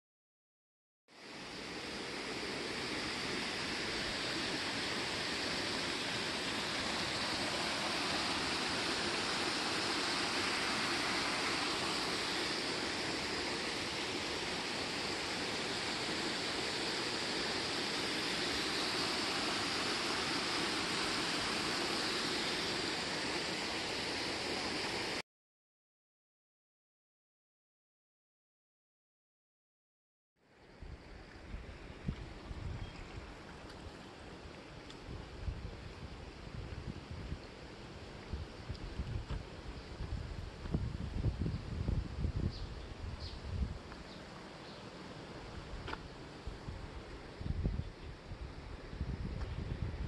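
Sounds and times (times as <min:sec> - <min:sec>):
water rushing in a canal: 0:01.1 - 0:25.2, 0:30.7 - 0:50.0.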